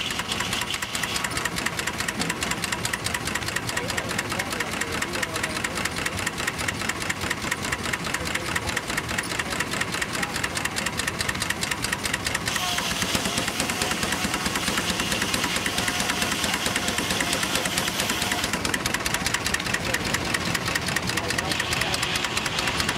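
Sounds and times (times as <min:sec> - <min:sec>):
steam engine exhaust beat: 0:00.0 - 0:22.9.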